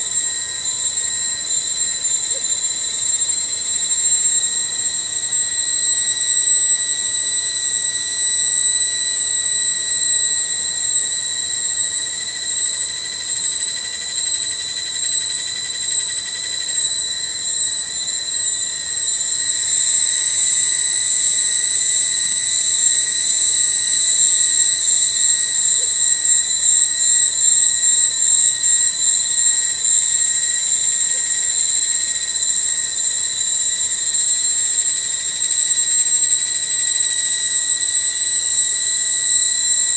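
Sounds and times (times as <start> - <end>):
cicadas buzzing drone: 0.0 - 39.9.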